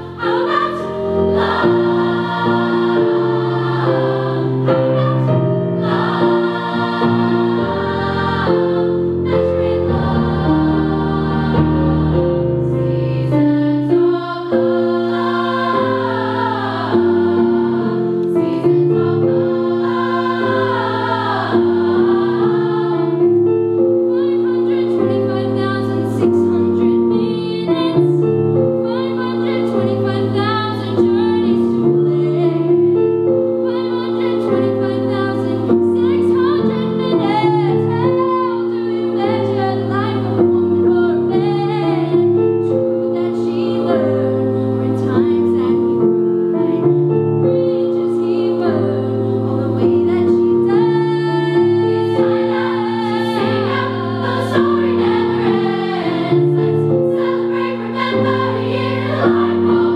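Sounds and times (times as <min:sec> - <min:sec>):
girls' choir singing: 0:00.0 - 0:59.9
piano: 0:00.0 - 0:59.9.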